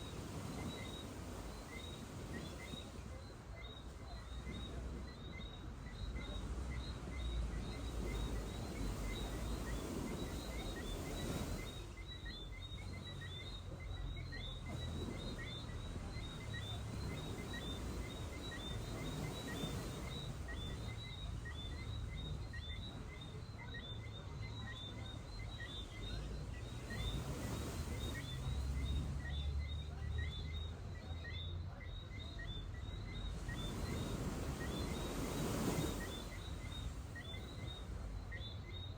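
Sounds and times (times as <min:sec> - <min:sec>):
surf washing onto beach: 0:00.0 - 0:31.2, 0:32.6 - 0:38.8.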